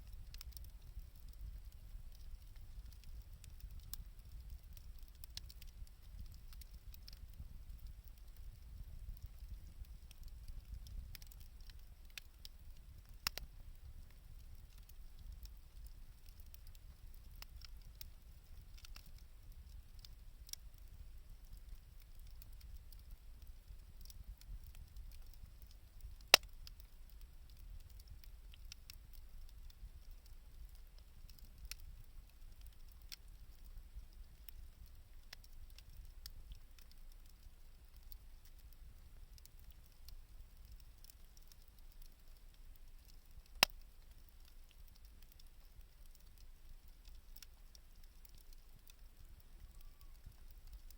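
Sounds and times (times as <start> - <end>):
faint fire crackles: 0.0 - 50.9
wood fire rumbling: 0.0 - 50.9.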